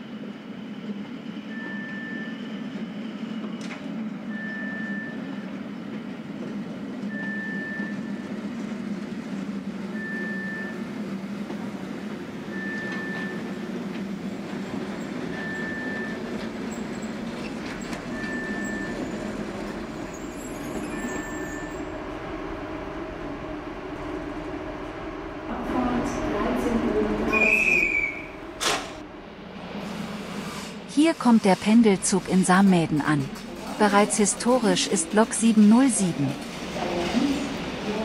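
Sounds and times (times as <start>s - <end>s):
electric train humming and rumbling: 0.0s - 38.0s.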